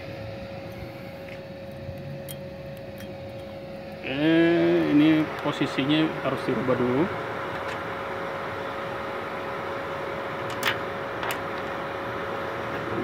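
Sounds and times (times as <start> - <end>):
welder cooling fan whirring: 0.0 - 13.0.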